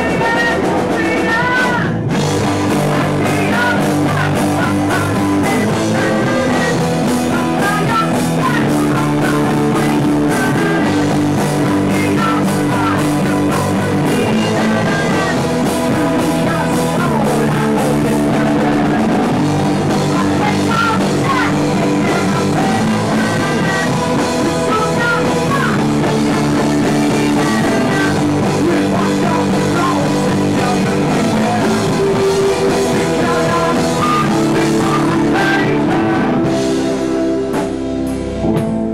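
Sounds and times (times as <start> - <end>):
loud rock band music: 0.0 - 38.9.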